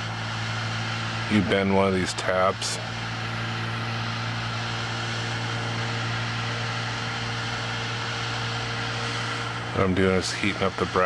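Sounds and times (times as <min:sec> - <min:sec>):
low electrical hum: 0:00.0 - 0:11.0
torch flame hissing: 0:00.0 - 0:11.0.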